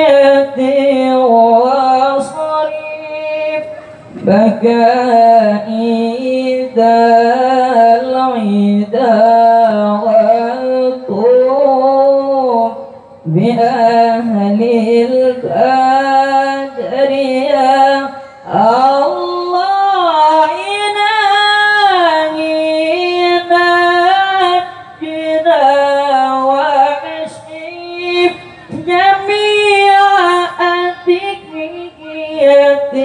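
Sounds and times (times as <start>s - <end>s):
young man chanting into microphone: 0.0s - 33.0s.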